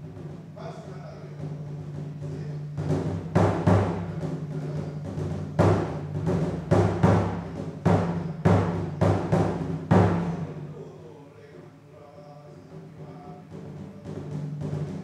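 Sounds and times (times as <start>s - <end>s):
heavy drum strikes: 0.0s - 11.1s, 12.2s - 15.0s.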